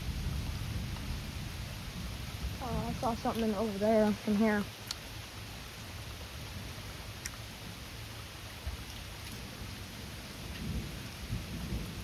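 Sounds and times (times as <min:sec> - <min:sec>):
low rumble of thunder: 0:00.0 - 0:04.8, 0:05.4 - 0:12.0
steady rain falling: 0:00.0 - 0:12.0.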